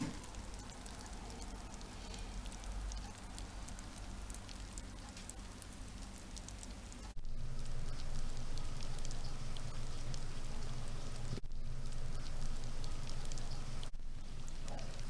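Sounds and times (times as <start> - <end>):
steady low hum: 0.0 - 15.0
worms crackling in bedding: 0.1 - 15.0.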